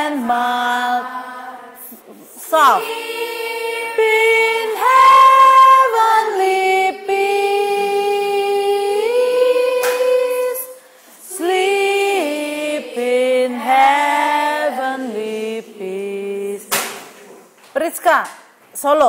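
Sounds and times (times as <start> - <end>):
group singing without accompaniment: 0.0 - 17.5.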